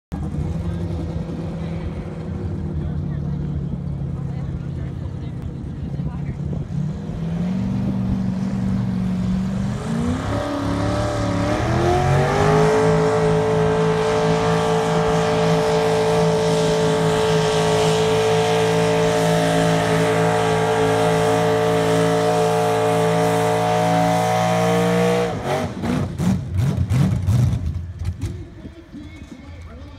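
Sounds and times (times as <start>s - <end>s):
tractor engine revving: 0.1s - 29.9s.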